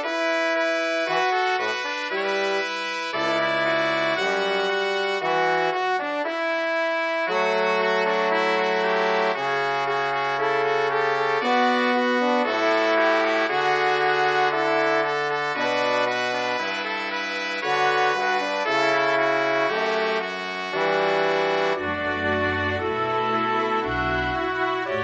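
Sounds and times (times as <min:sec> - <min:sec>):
brass section playing chords: 0:00.0 - 0:25.0.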